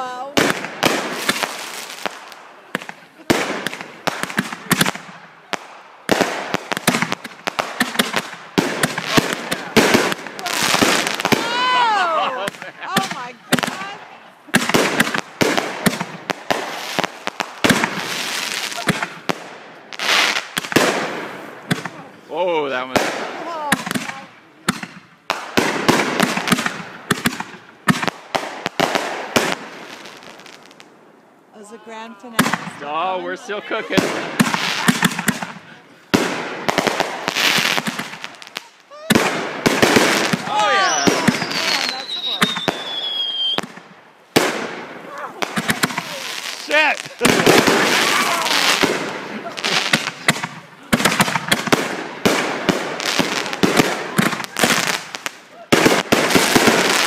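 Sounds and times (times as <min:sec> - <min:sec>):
fireworks bangs and crackling: 0:00.0 - 0:31.2, 0:32.2 - 0:57.0.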